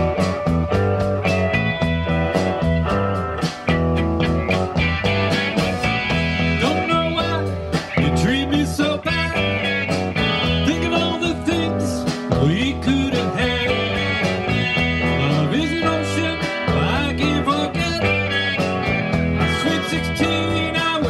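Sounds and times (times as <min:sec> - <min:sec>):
drum beat: 0:00.0 - 0:21.0
electric guitars: 0:00.0 - 0:21.0
lead guitar bending notes: 0:00.0 - 0:21.0.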